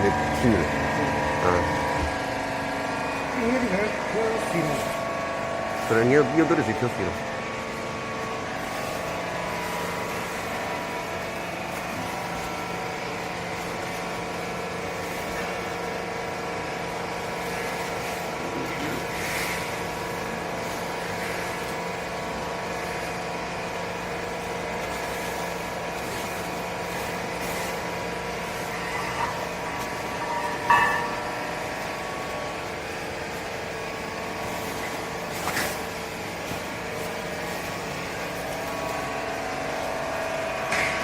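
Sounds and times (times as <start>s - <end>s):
baling machine motor humming: 0.0s - 41.0s.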